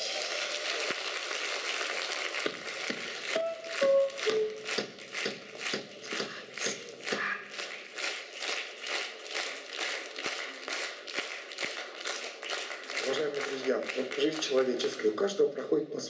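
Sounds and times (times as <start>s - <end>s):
general applause: 0.0s - 15.1s
audience clapping in unison: 0.0s - 15.2s.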